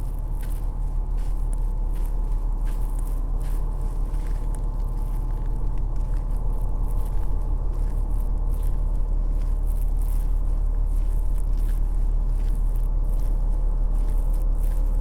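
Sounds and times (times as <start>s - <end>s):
low rumble of city traffic: 0.0s - 15.0s.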